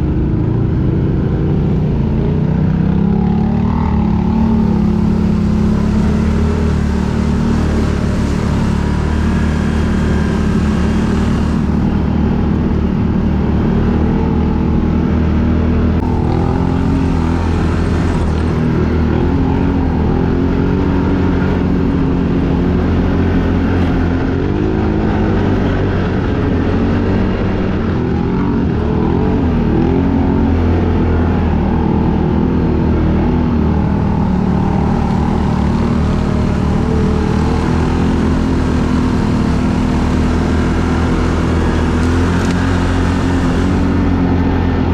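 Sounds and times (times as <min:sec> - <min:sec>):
quad bike engine running: 0:00.0 - 0:44.9.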